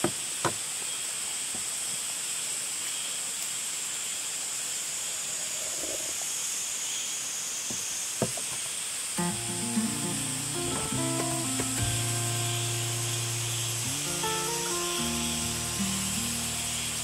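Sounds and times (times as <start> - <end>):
high-pitched outdoor hiss: 0.0 - 17.0.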